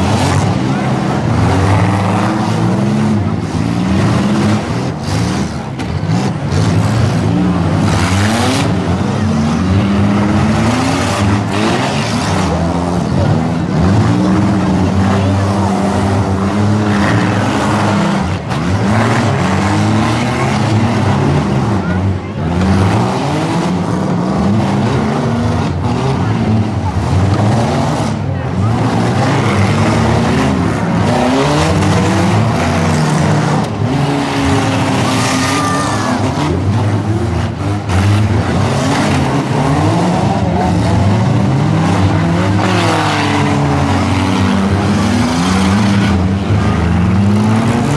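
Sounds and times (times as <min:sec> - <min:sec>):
car engines revving hard: 0:00.0 - 0:47.9.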